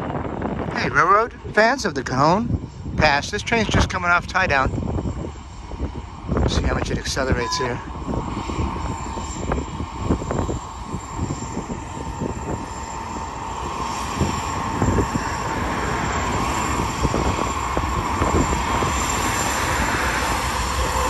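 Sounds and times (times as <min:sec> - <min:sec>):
diesel locomotive engine rumble: 0:00.0 - 0:21.0.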